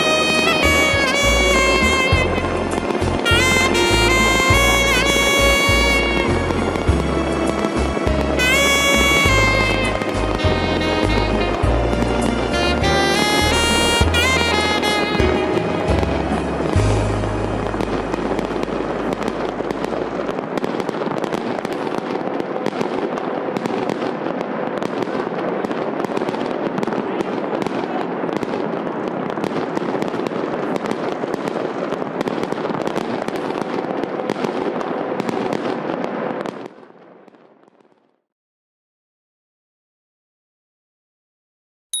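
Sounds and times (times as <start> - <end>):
fireworks crackling and banging: 0.0 - 38.2.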